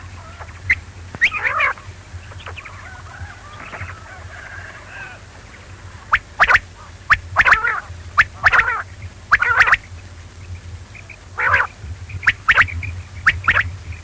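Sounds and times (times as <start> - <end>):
quail calling: 0.0 - 14.0
steady low hum: 0.0 - 14.0.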